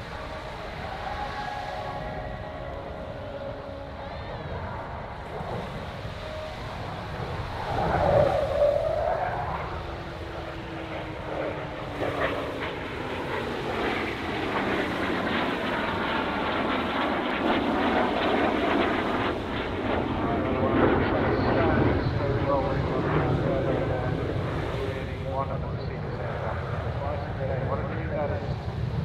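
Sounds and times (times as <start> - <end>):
jet flyby: 0.0 - 29.0.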